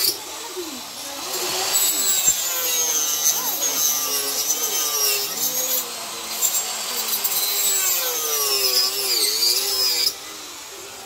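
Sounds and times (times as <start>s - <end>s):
electric saw cutting wood: 0.0s - 11.0s.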